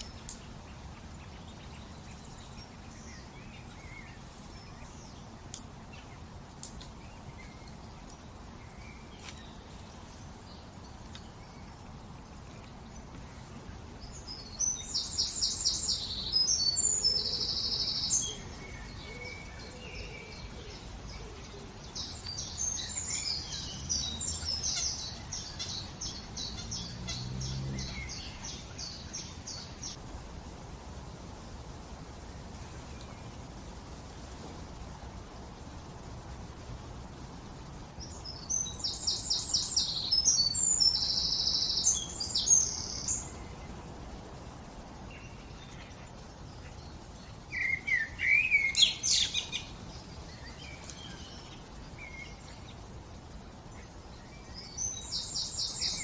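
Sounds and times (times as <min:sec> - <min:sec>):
faint outdoor background: 0:00.0 - 0:56.0
songbirds singing: 0:00.0 - 0:56.0.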